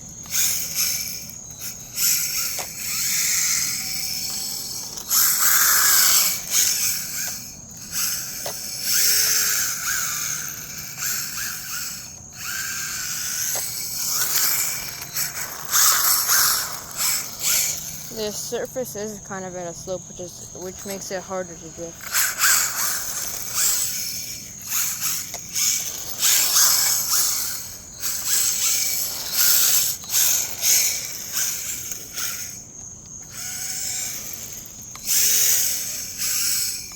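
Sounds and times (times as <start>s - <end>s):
rc car electric motor whining: 0.0s - 36.9s.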